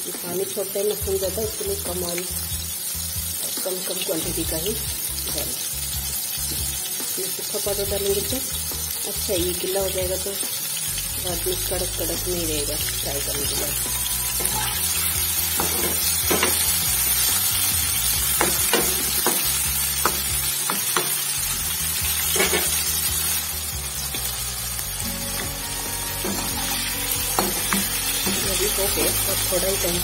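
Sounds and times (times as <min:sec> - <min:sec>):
mushrooms sizzling in hot oil: 0:00.0 - 0:30.0.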